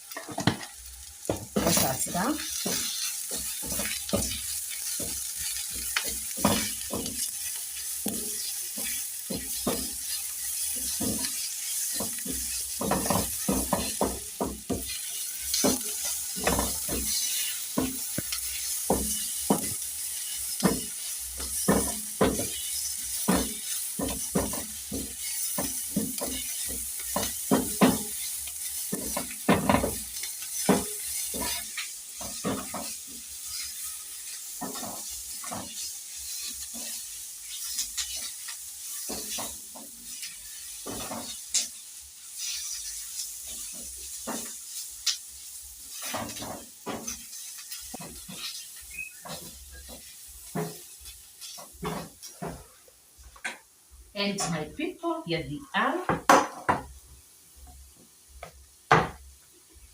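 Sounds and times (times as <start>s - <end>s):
food sizzling in a frying pan: 0.0s - 59.9s
spoon scraping a pan: 0.1s - 52.8s.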